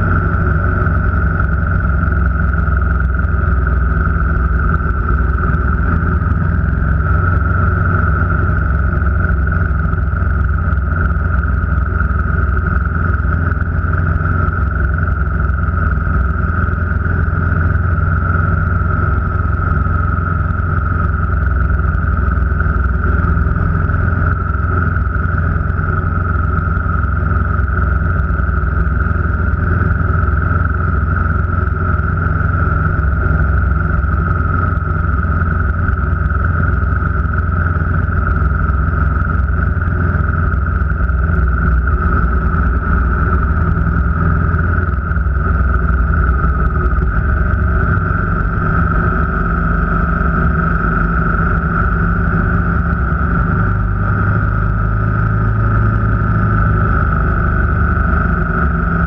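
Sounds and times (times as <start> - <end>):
car engine and road drone: 0.0 - 59.0
high-pitched whine: 0.0 - 59.0.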